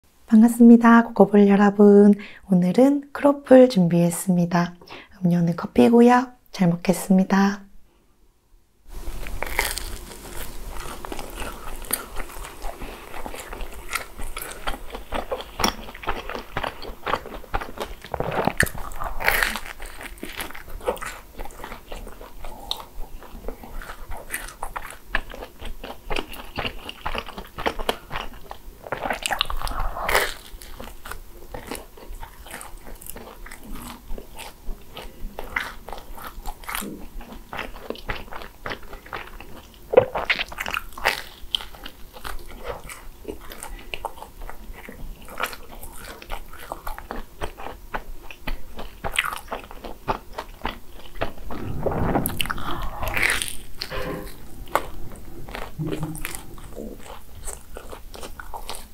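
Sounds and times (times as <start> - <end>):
crunching crisp pastry: 9.0 - 51.8, 52.4 - 58.9.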